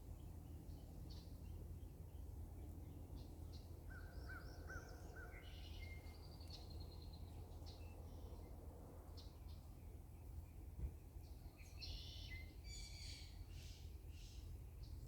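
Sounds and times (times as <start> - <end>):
faint low outdoor rumble: 0.0 - 15.0.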